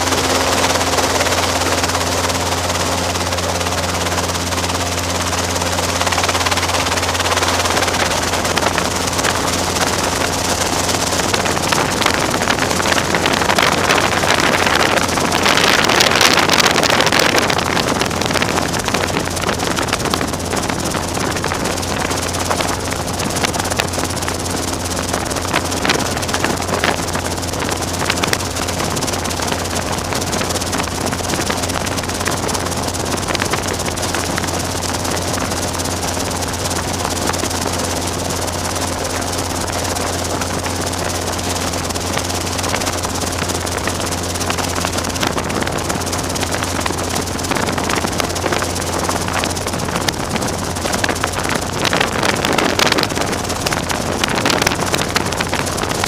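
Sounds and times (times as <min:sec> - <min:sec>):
helicopter drone: 0:00.0 - 0:56.0
wind noise rush: 0:00.0 - 0:56.0.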